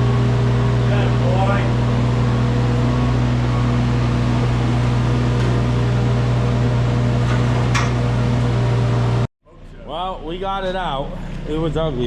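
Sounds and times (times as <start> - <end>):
diesel engine running steadily: 0.0 - 9.8.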